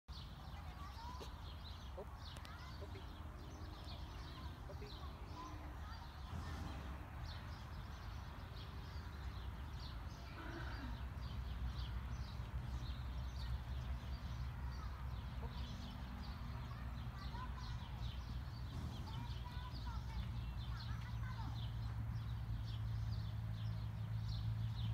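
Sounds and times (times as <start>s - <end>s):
birds chirping: 0.1s - 24.9s.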